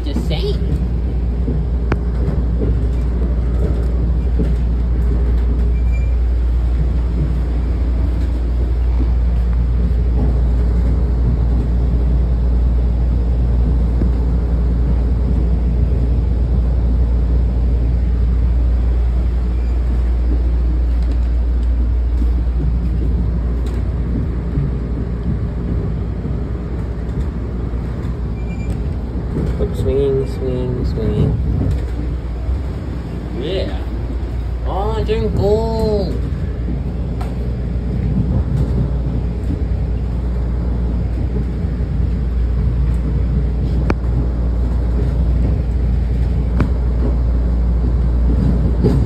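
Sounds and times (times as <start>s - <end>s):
train coach rumble: 0.0s - 49.0s.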